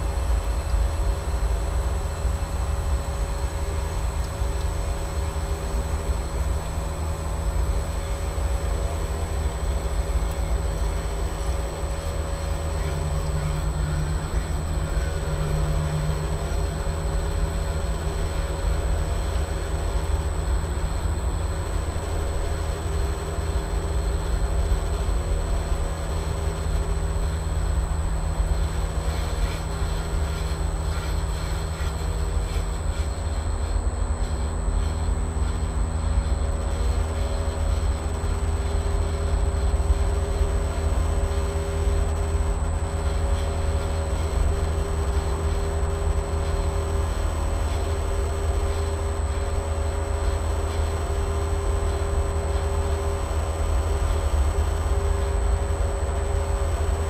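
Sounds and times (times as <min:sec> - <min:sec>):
heat pump humming: 0:00.0 - 0:57.0.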